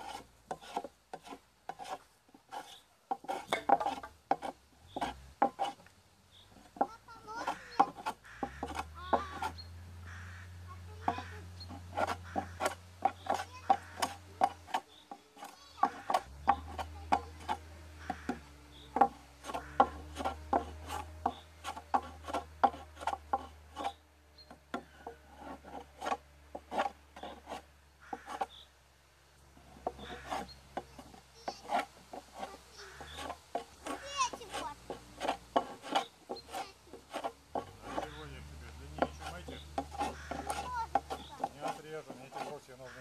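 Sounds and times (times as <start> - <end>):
hand saw cutting wood: 0.0 - 5.9, 6.5 - 28.6, 29.5 - 43.0.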